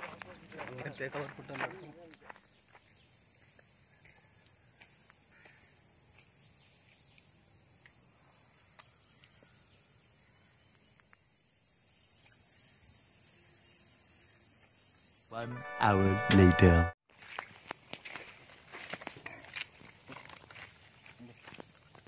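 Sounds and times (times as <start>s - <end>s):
insects chirring: 0.0s - 15.6s, 17.3s - 22.0s.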